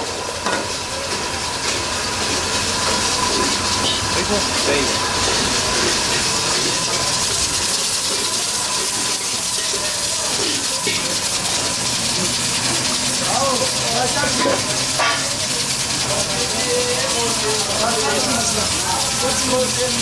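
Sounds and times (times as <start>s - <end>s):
cooking pots steaming: 0.0s - 20.0s
faint voices: 0.0s - 20.0s
gas stove burners hissing: 0.0s - 20.0s.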